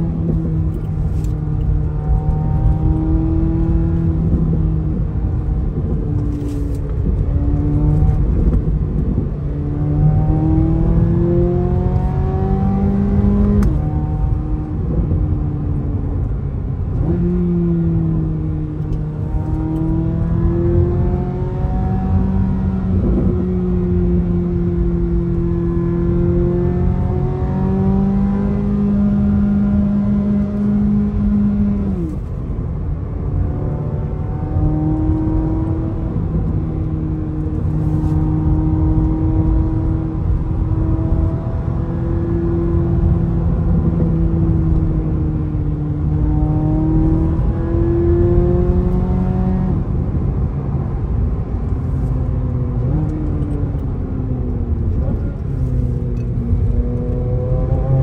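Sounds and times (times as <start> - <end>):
car engine drone from inside cabin: 0.0 - 58.0.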